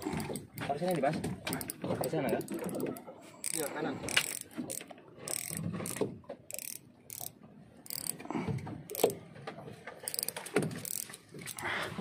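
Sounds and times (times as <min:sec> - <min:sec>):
fishing reel clicking and whirring: 0:00.0 - 0:08.3, 0:08.9 - 0:09.2, 0:10.0 - 0:11.6.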